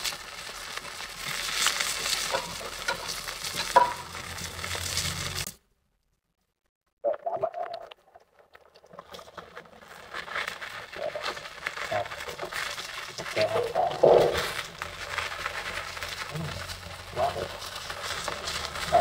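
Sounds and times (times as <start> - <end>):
fish sizzling in hot oil: 0.0 - 5.6, 8.8 - 19.0.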